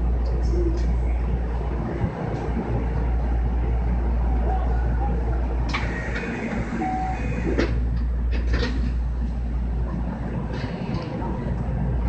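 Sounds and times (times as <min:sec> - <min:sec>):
train interior hum and rumble: 0:00.0 - 0:12.0.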